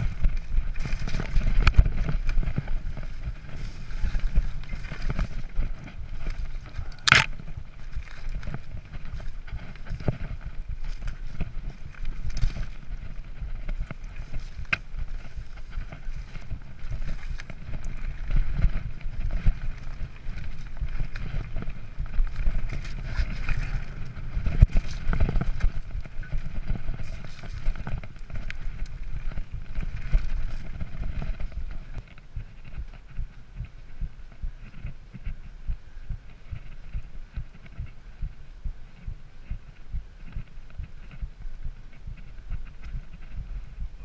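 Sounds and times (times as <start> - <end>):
bike rattling over stones: 0.0 - 38.3
wind rumble on microphone: 0.0 - 44.0.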